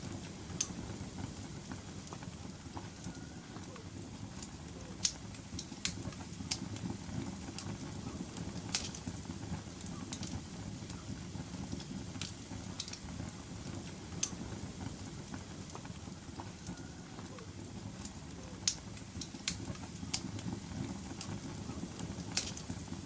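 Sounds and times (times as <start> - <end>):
fire crackles and pops: 0.0 - 23.0
wood fire roaring: 0.0 - 23.0.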